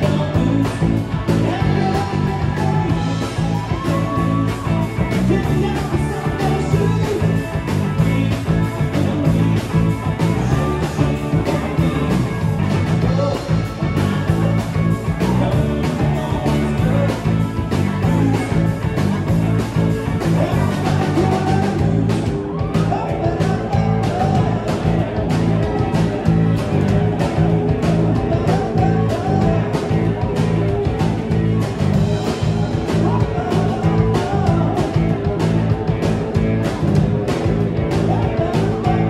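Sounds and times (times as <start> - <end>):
live rock band playing: 0.0 - 39.0
steady drum beat: 0.0 - 39.0.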